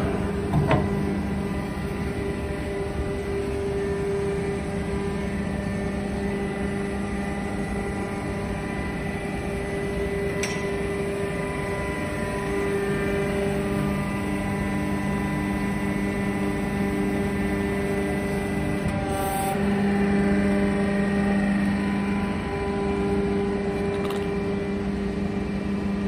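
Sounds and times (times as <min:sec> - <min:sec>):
hydraulic pump motor humming: 0:00.0 - 0:26.0.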